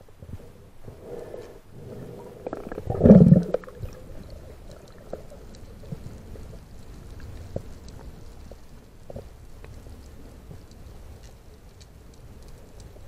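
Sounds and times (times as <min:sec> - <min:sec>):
muffled underwater ambience: 0:00.2 - 0:13.0
faint crackling clicks: 0:02.4 - 0:13.0.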